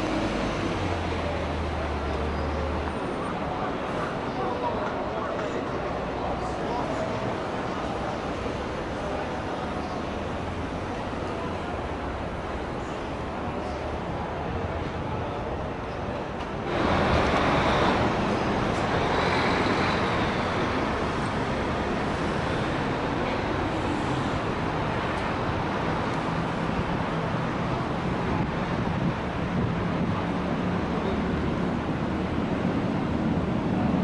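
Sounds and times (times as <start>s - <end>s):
city road traffic: 0.0s - 34.0s.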